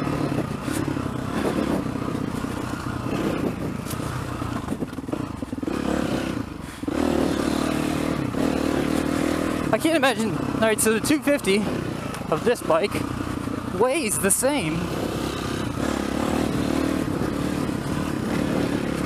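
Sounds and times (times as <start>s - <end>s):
dirt bike engine under throttle: 0.0s - 19.0s.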